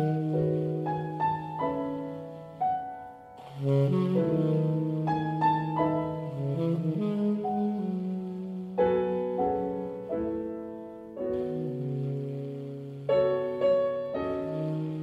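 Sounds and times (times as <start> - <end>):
jazz piano chords: 0.0 - 15.0
low held piano notes: 0.0 - 15.0.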